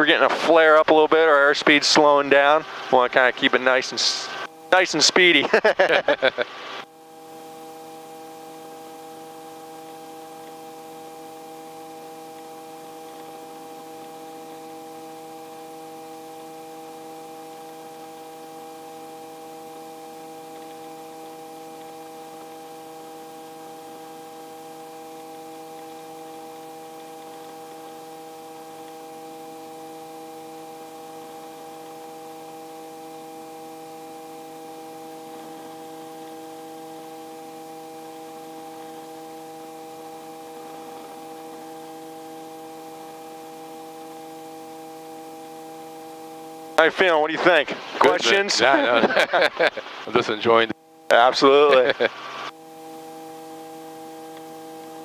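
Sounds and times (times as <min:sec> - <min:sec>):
constant hiss: 0:00.0 - 0:55.0
helicopter drone through headset: 0:00.0 - 0:55.0.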